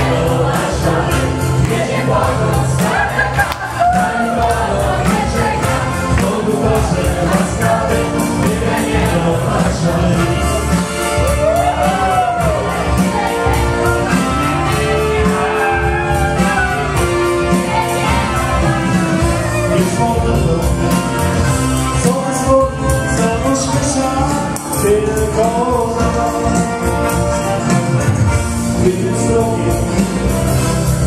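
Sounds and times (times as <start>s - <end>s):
band playing upbeat dance song: 0.0s - 31.0s.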